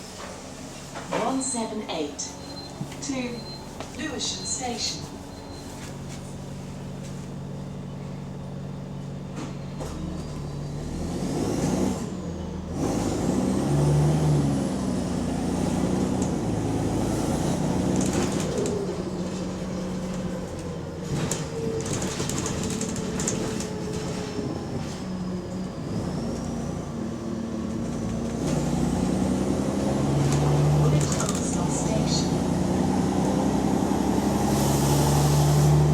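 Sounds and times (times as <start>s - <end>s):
diesel bus engine accelerating: 0.0s - 35.9s.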